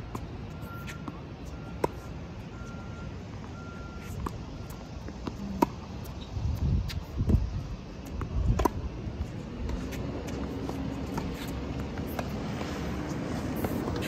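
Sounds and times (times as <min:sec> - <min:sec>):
steady low rumble: 0:01.4 - 0:14.0.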